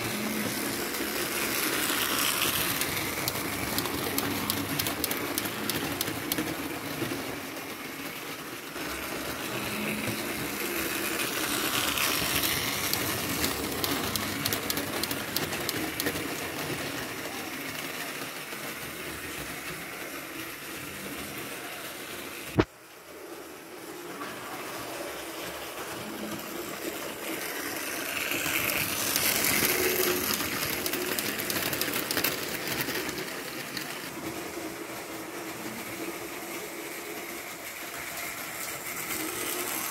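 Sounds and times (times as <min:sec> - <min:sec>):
wheels rattling on rails: 0:00.0 - 0:22.5, 0:23.9 - 0:39.9
model train motor whirring: 0:00.0 - 0:22.6, 0:23.4 - 0:39.9.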